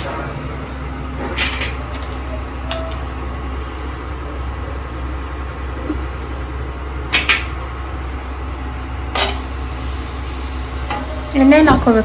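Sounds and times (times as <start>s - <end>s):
kitchen hum: 0.0s - 12.0s.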